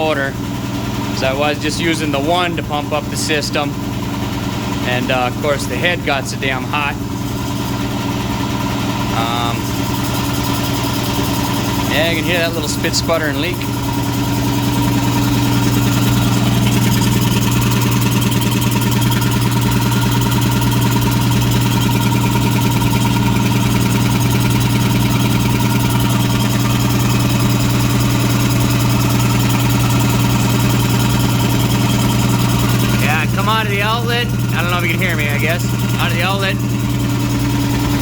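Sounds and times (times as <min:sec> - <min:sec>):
air compressor humming: 0:00.0 - 0:38.0.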